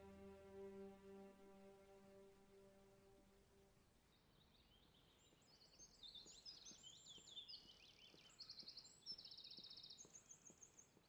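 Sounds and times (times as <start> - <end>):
faint woodland birdsong: 0.0 - 11.0.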